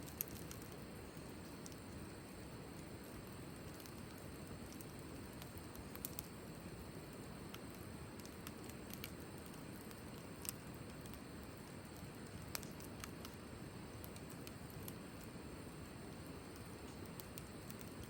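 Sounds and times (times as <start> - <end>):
wood fire crackling pops: 0.0 - 18.0.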